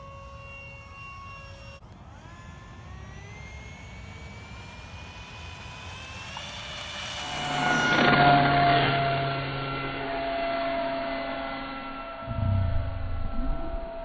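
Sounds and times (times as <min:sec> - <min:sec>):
electric ducted fan whining: 0:00.0 - 0:14.0.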